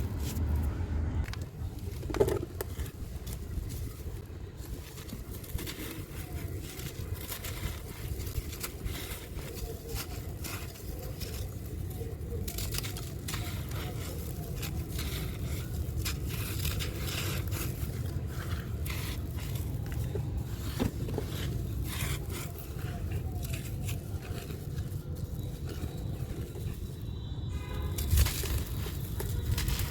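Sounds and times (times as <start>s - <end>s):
crunchy block crumbling: 1.2s - 29.9s.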